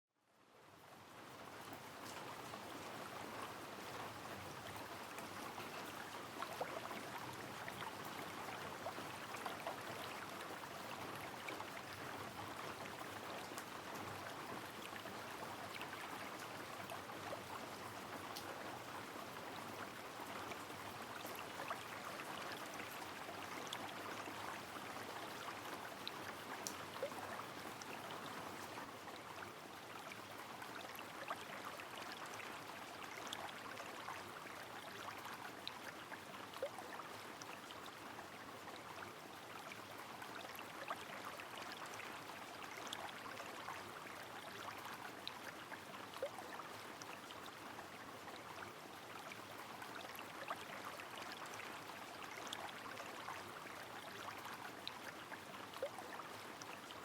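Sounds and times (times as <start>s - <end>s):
rain drips: 0.5s - 57.0s.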